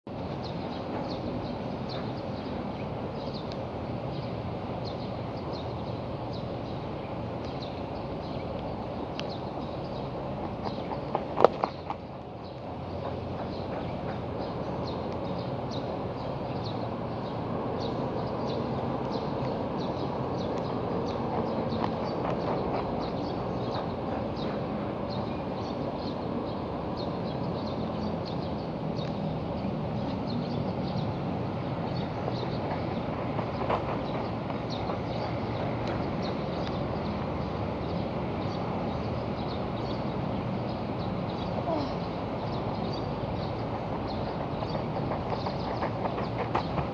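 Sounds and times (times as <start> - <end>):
low rumble of distant traffic: 0.1 - 46.9
small birds chirping: 0.1 - 46.9.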